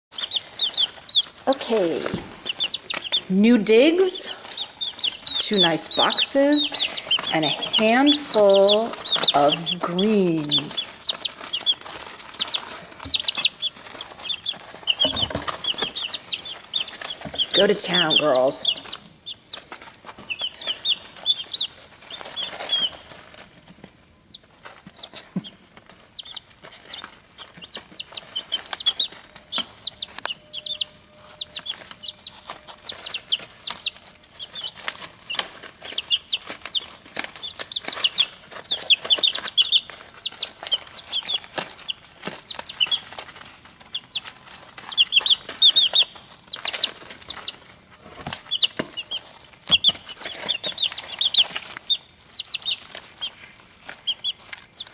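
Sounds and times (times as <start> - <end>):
chicks peeping: 0.1 - 54.9
chicks scratching in wood shavings: 0.1 - 54.9.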